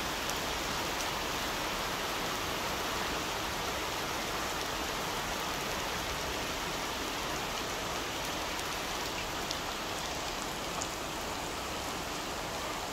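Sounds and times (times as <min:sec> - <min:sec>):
heavy rain on trees and ground: 0:00.0 - 0:12.9.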